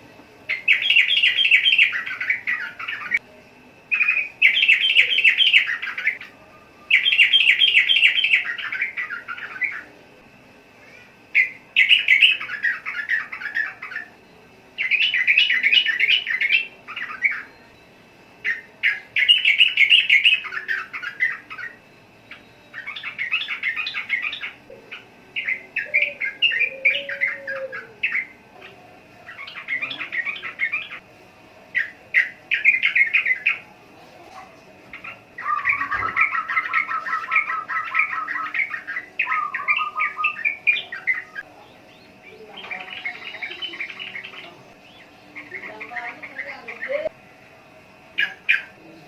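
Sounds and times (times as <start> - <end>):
bird chattering song: 0.5 - 3.2, 3.9 - 6.3, 6.9 - 9.9, 11.2 - 31.0, 31.7 - 33.7, 34.9 - 47.2, 48.1 - 48.8.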